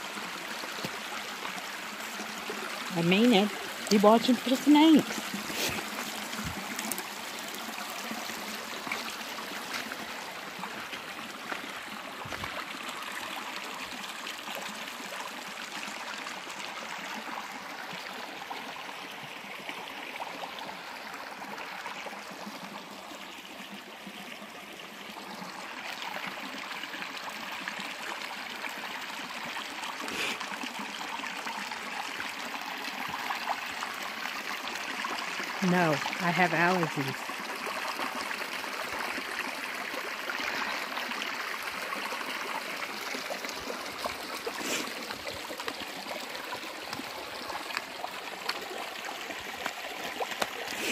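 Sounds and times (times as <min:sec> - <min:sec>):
mountain stream rushing: 0:00.0 - 0:24.1, 0:24.8 - 0:50.9.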